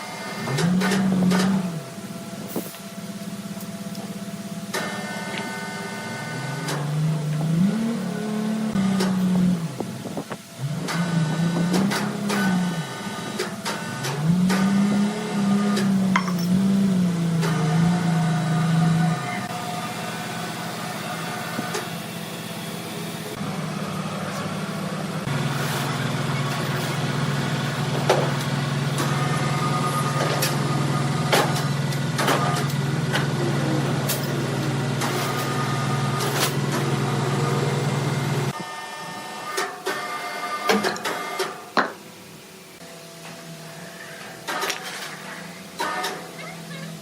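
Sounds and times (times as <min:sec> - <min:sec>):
sawmill machinery humming: 0:00.0 - 0:41.4.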